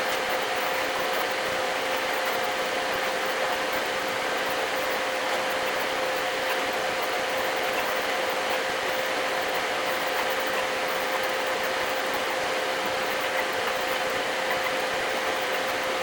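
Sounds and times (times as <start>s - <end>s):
printer fan noise: 0.0s - 16.0s.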